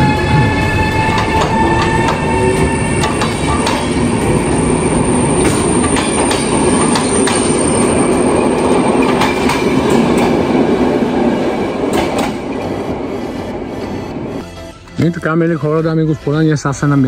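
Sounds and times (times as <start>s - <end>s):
passenger train running: 0.0s - 17.0s.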